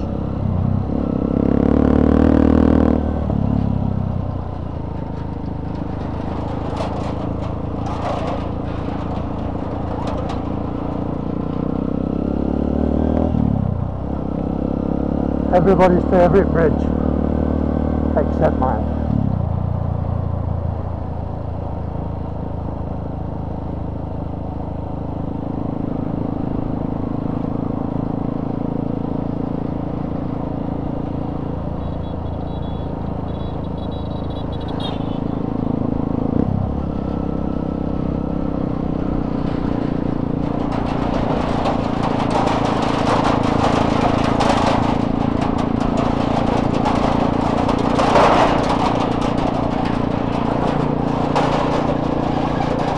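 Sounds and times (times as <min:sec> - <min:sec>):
motorcycle engine running: 0:00.0 - 0:52.9
wheels rattling over steel bridge deck: 0:00.0 - 0:52.9.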